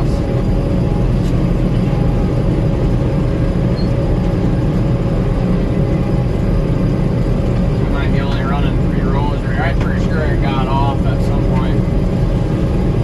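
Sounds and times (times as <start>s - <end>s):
combine harvester drone: 0.0s - 13.0s.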